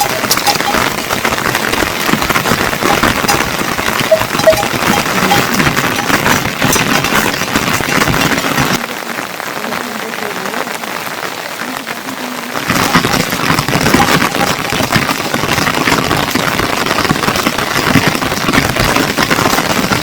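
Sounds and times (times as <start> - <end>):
rain pattering: 0.0 - 20.0.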